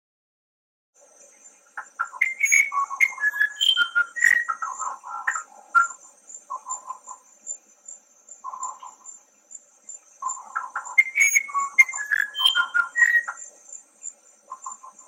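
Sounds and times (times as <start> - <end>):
pulsing high-pitched insect trill: 1.0 - 15.0
wren singing whistled notes: 1.2 - 15.0.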